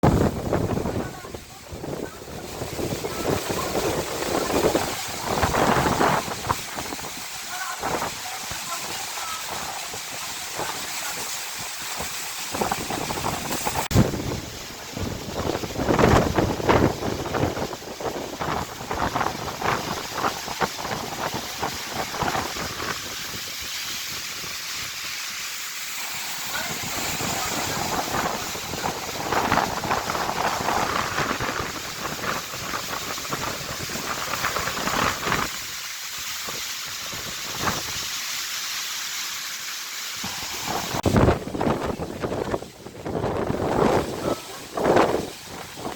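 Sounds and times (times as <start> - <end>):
wind buffeting microphone: 0.0 - 25.2, 26.5 - 38.1, 40.2 - 45.9.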